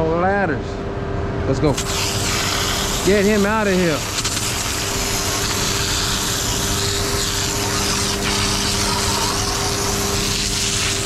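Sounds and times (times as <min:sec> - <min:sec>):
water spraying hiss: 0:01.8 - 0:11.0.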